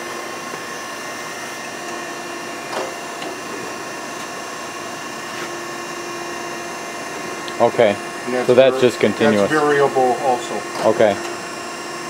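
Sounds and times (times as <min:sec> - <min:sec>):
hydraulic grinder humming: 0:00.0 - 0:12.0.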